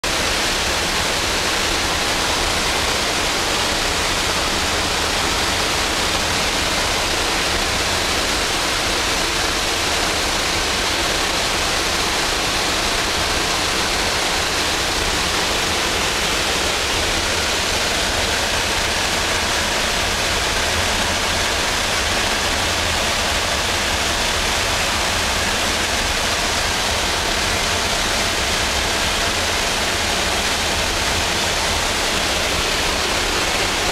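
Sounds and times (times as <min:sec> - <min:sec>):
aircraft engine noise: 0:00.0 - 0:33.9.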